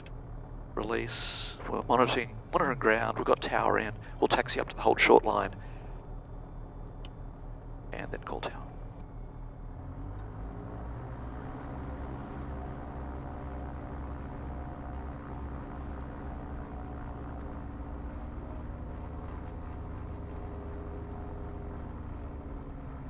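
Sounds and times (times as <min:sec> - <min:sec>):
propeller engines droning: 0:00.0 - 0:23.0.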